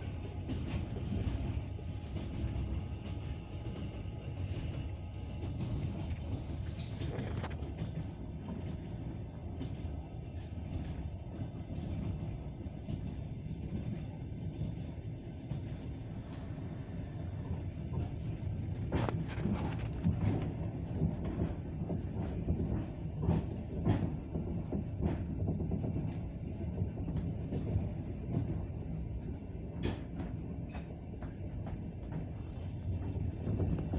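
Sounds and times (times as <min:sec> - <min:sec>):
train rumbling on rails: 0:00.0 - 0:33.9
train wheels clacking: 0:00.0 - 0:33.9.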